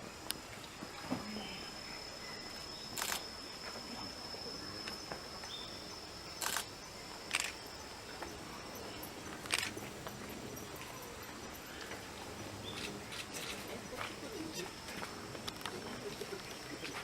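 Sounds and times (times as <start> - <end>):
insect high-pitched tone: 0.0 - 17.0.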